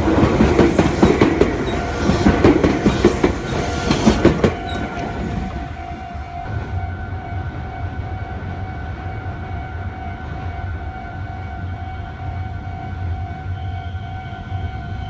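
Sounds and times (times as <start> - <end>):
electric train rumbling: 0.0 - 15.0
railway crossing alarm tones: 0.0 - 15.0.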